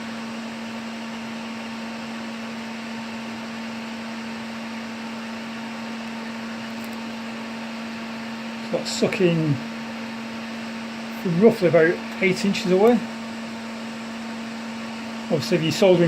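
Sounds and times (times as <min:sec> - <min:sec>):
fume extractor fan running: 0:00.0 - 0:16.0.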